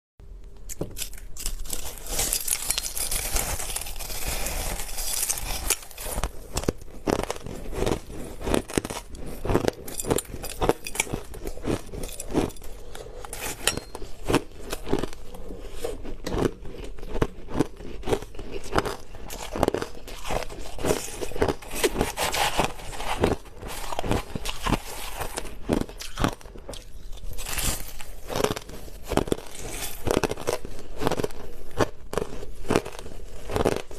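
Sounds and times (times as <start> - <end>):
chewing crushed ice: 0.7 - 33.9.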